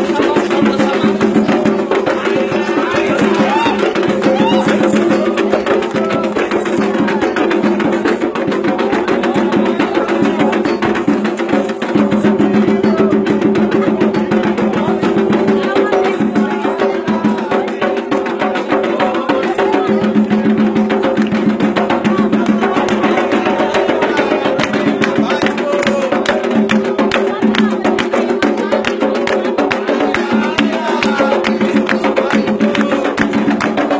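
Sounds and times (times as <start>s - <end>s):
fast hand drumming: 0.0s - 33.9s
group singing: 0.0s - 33.9s.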